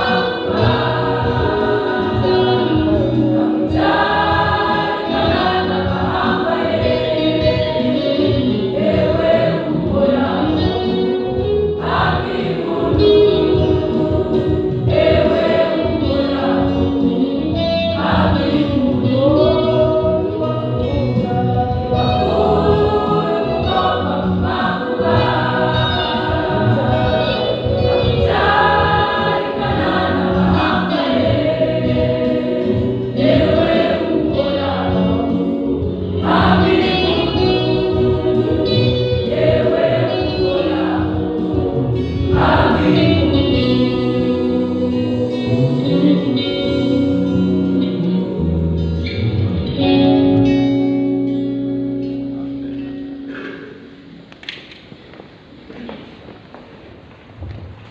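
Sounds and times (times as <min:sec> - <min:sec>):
choir singing gospel in harmony: 0:00.0 - 0:50.4.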